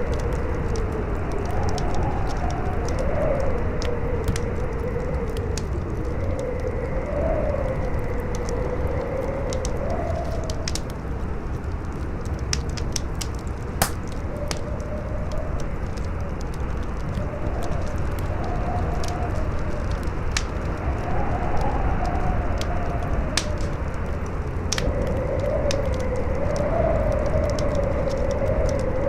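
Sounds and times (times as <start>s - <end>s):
campfire crackling and popping: 0.0s - 29.0s
howling wind: 0.0s - 29.0s.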